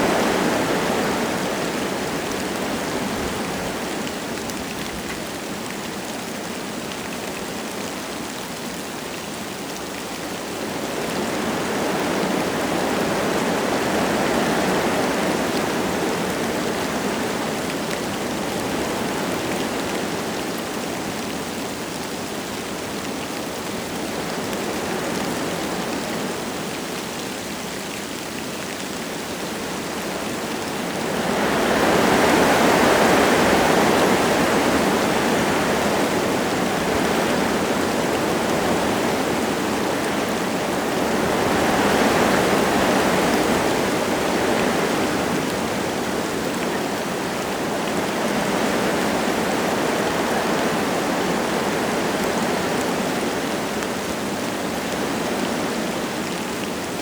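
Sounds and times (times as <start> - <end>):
light rain falling: 0.0 - 57.0
wind gusting through trees: 0.0 - 57.0.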